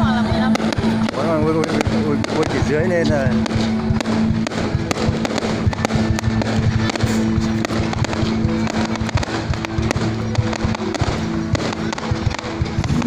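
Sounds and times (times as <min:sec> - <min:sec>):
fireworks bangs and crackles: 0:00.0 - 0:13.0
music with held notes: 0:00.0 - 0:13.0.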